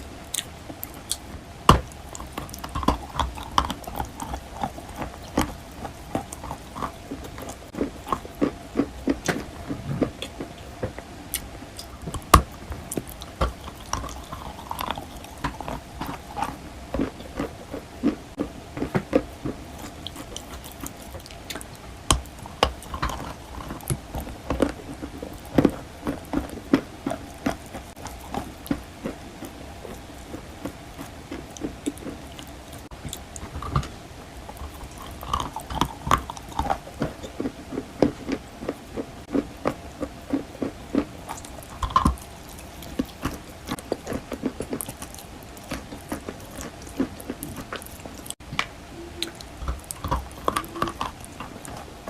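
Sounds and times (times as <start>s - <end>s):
chalk being chewed: 1.9s - 9.4s, 11.3s - 33.5s, 34.5s - 48.4s, 49.2s - 51.9s.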